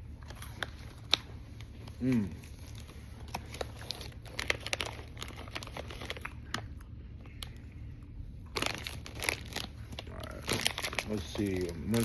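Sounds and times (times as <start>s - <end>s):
plastic wrapper crinkling: 0.2s - 6.8s, 8.4s - 12.0s.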